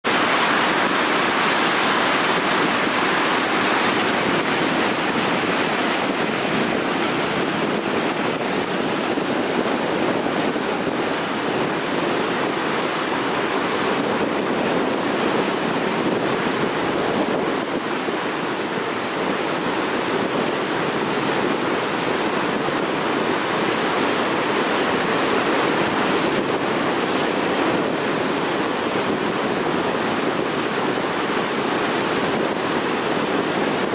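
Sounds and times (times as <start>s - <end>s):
rush of churning water: 0.0s - 33.9s.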